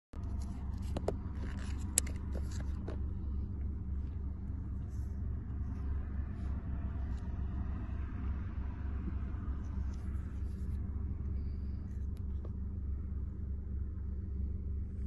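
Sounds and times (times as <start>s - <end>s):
low rumble: 0.2s - 15.0s.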